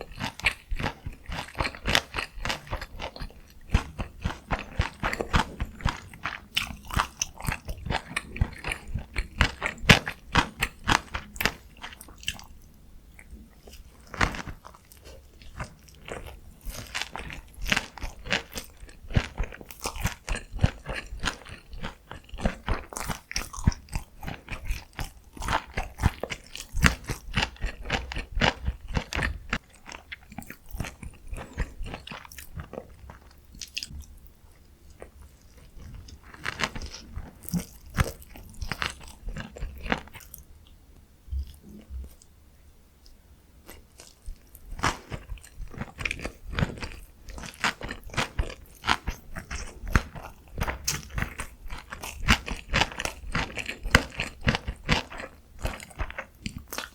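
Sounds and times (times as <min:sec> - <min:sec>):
chewing and crunching: 0:00.0 - 0:42.3, 0:43.0 - 0:56.9.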